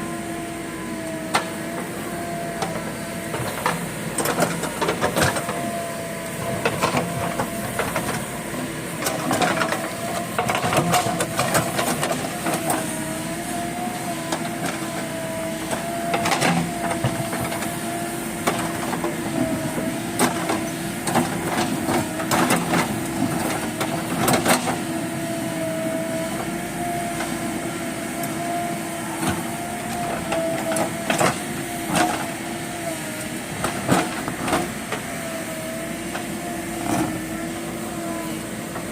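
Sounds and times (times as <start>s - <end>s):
backhoe loader whine: 0.0s - 38.9s.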